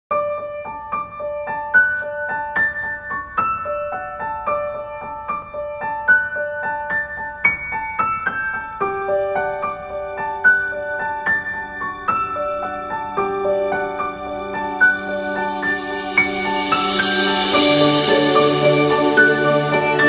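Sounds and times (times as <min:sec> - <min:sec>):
piano music: 0:00.1 - 0:20.0.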